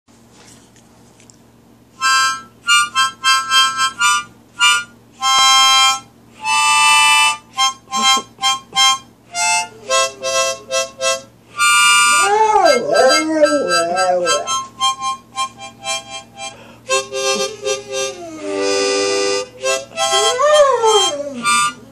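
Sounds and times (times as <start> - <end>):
harmonica chords and notes: 2.0 - 21.9.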